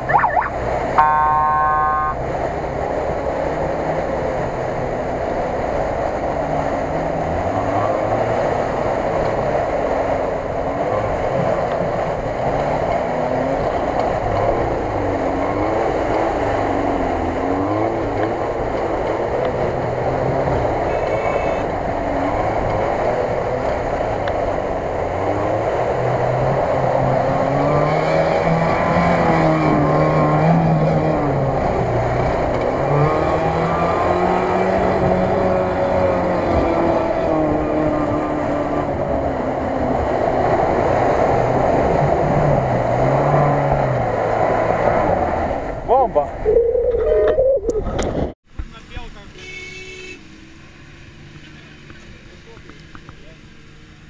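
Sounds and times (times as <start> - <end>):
water splashing off wheels: 0.0 - 46.5
car engine revving: 0.0 - 48.3.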